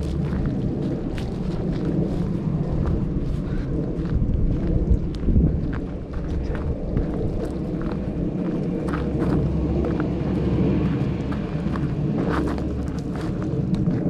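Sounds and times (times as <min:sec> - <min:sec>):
footsteps on gravel: 0:00.0 - 0:14.0
wind buffeting microphone: 0:00.0 - 0:14.0.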